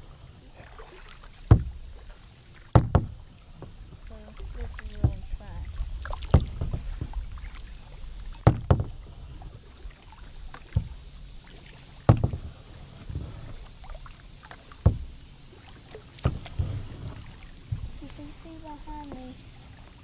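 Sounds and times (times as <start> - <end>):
paddle blades splashing: 0.0 - 20.0
steady low rumble: 0.0 - 20.0
paddle knocking on kayak: 0.7 - 13.6, 14.4 - 15.2, 15.8 - 19.4.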